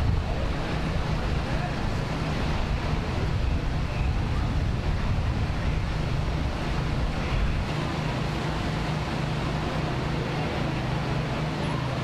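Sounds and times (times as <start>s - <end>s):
wind buffeting the microphone: 0.0s - 11.4s
vehicle engines idling: 0.0s - 12.0s.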